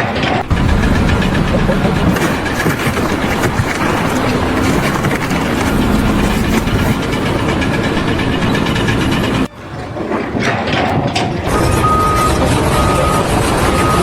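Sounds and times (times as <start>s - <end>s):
machinery engine running: 0.0s - 9.5s, 11.3s - 14.0s
background noise mix: 0.0s - 14.0s.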